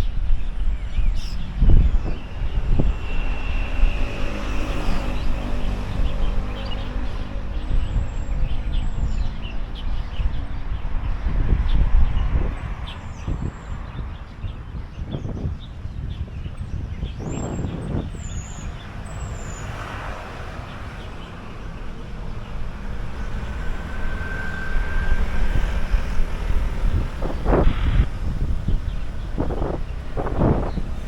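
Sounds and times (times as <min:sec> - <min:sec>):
traffic rumble: 0:00.0 - 0:31.0
wind: 0:00.0 - 0:31.0.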